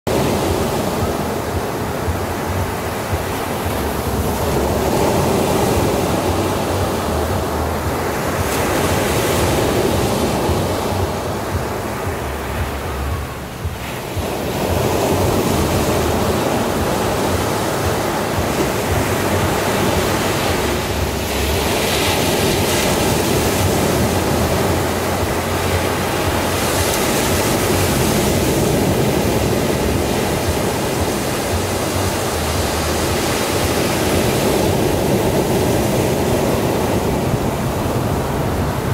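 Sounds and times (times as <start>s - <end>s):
ocean waves breaking: 0.1s - 38.9s.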